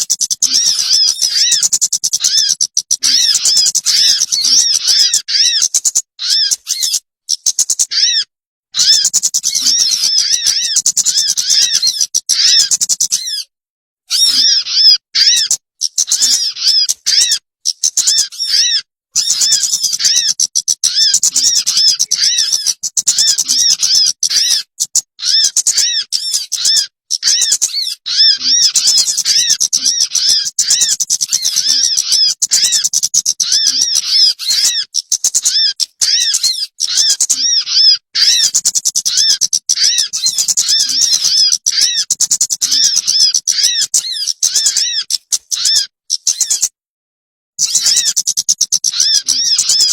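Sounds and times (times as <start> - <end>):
high arching bird chirps: 0.0 - 46.8, 47.6 - 49.9.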